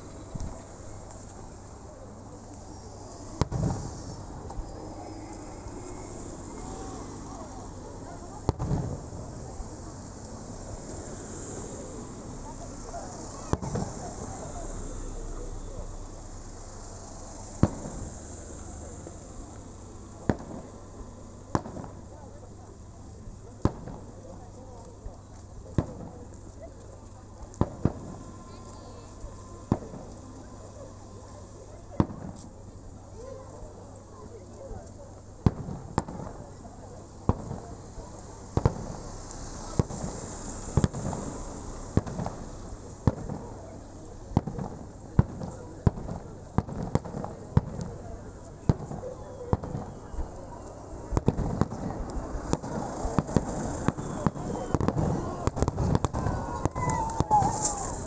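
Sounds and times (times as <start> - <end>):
fireworks booming: 0.0 - 10.8, 12.4 - 22.1, 23.6 - 24.3, 25.6 - 26.4, 27.2 - 31.2, 31.9 - 32.6, 35.4 - 50.3, 50.9 - 58.0
crowd murmuring: 0.0 - 58.0.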